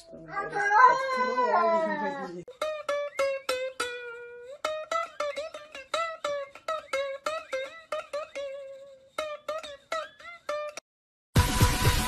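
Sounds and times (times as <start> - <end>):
plucked string instrument playing: 0.0 - 10.8.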